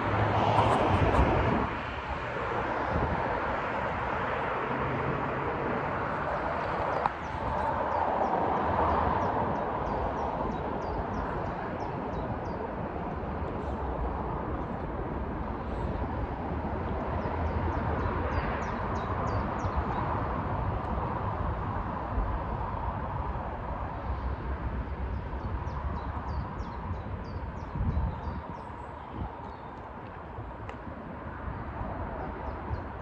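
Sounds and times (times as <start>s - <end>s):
low rumble of outdoor noise: 0.0s - 33.0s.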